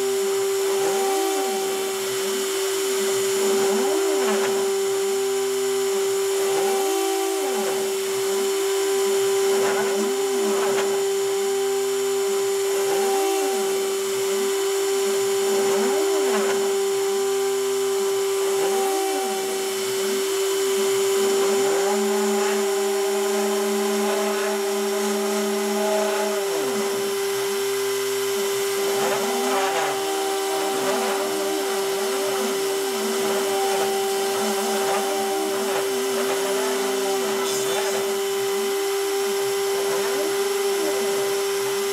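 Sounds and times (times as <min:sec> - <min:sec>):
rotary tool whining cutting cardboard: 0:00.0 - 0:41.9
stepper motors whining: 0:00.0 - 0:41.9.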